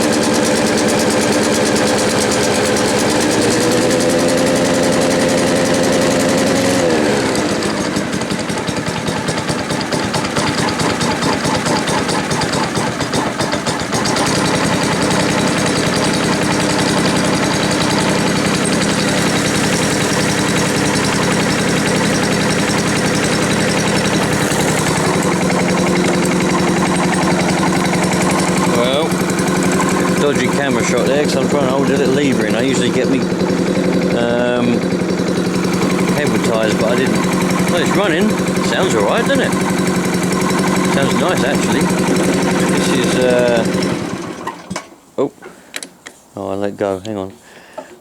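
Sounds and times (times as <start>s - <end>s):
lawn mower engine running: 0.0s - 45.1s.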